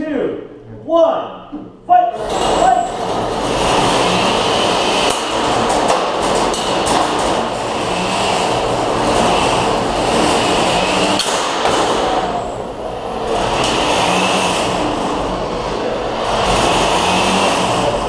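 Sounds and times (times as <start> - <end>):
electric motors whirring: 2.2 - 18.0.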